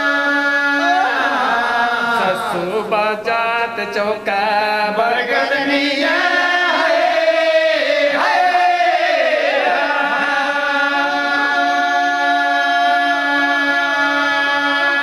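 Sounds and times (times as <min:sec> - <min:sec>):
unaccompanied folk chant: 0:00.0 - 0:15.0.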